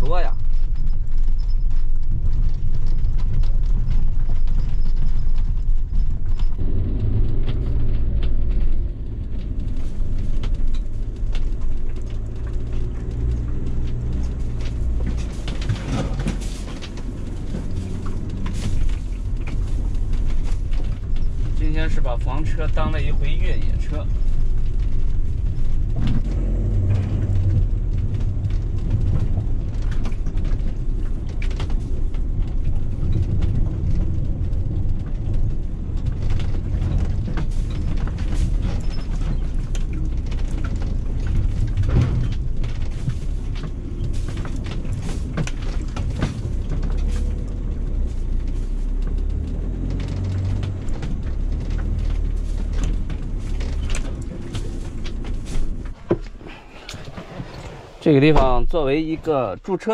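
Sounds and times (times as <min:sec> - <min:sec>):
engine and tyre rumble: 0:00.0 - 0:59.9
vehicle rattles and knocks: 0:00.0 - 0:59.9.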